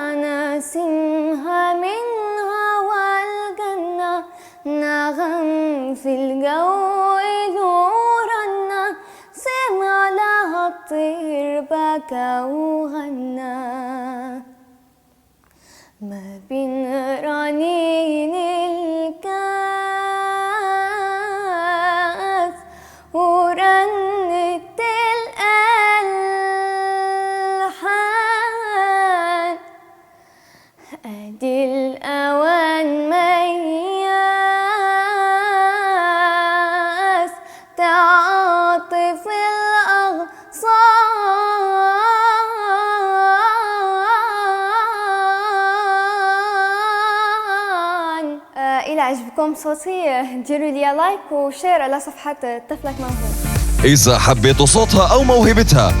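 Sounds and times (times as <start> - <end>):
girl singing unaccompanied: 0.0 - 14.6, 16.0 - 30.0, 30.8 - 53.4.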